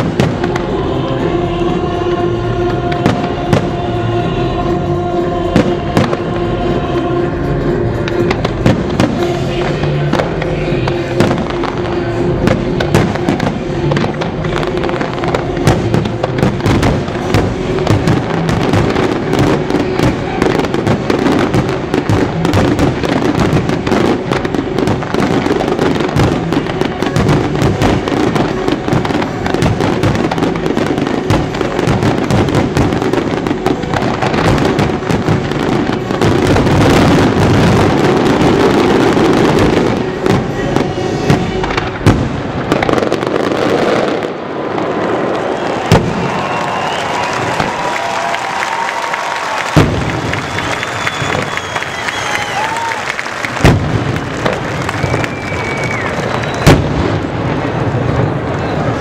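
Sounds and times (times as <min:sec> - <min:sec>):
fireworks bursting and crackling: 0:00.0 - 0:59.0
music playing: 0:00.0 - 0:59.0.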